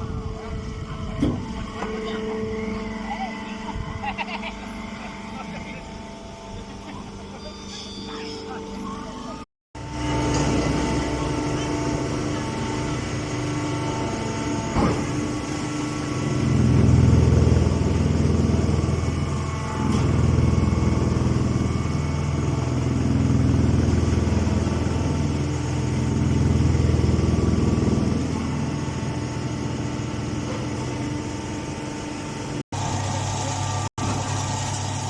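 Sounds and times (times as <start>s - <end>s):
hay baler motor humming: 0.0s - 35.0s.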